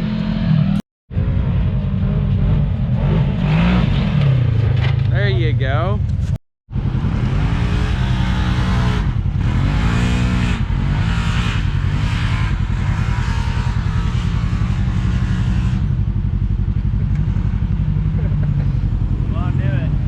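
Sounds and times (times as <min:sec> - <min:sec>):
utv engine revving: 0:00.0 - 0:20.0.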